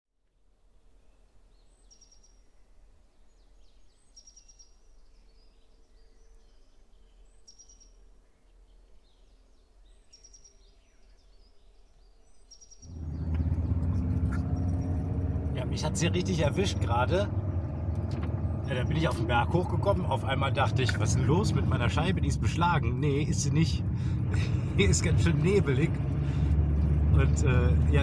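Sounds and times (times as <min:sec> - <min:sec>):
faint woodland ambience: 0:00.2 - 0:28.0
bird singing high phrase: 0:00.9 - 0:23.6.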